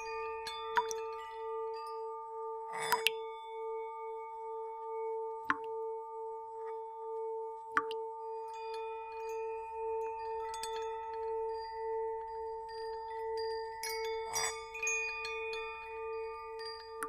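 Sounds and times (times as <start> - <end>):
high chime-like notes: 0.0 - 7.6, 8.2 - 17.0.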